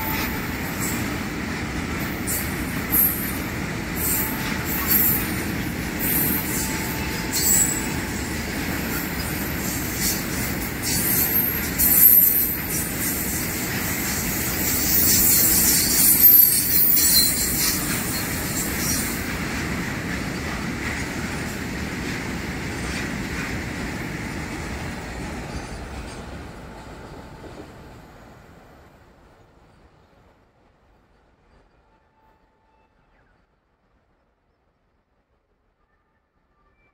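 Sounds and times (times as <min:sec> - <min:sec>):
freight train rumbling past: 0:00.0 - 0:35.5.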